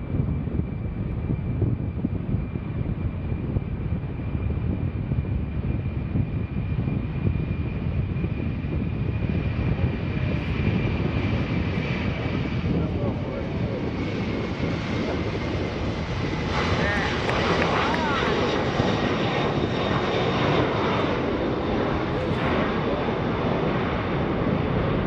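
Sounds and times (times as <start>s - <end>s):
high jet whine: 0.0s - 25.0s
jet engine rumble: 0.0s - 25.0s.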